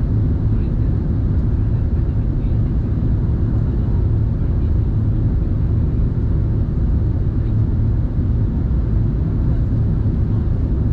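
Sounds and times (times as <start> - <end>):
jet engine hum: 0.0 - 10.9.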